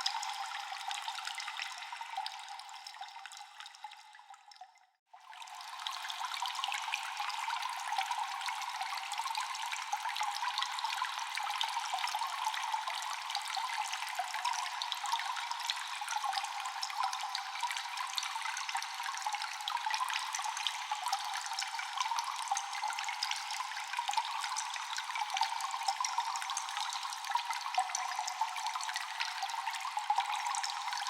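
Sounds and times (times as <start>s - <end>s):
echoing water drips: 0.0s - 31.0s.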